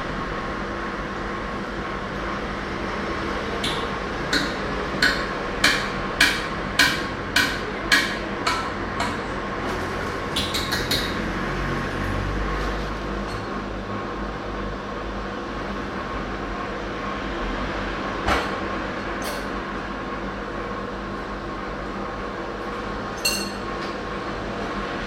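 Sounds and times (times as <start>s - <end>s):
kitchen equipment humming: 0.0s - 25.0s.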